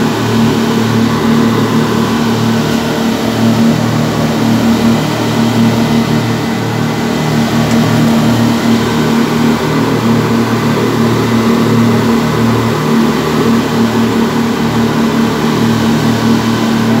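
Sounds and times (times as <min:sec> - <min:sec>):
boat engines droning: 0:00.0 - 0:17.0.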